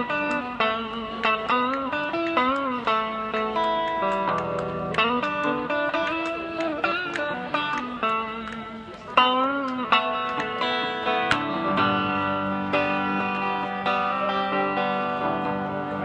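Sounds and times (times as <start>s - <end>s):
electric guitar melody: 0.0s - 16.0s.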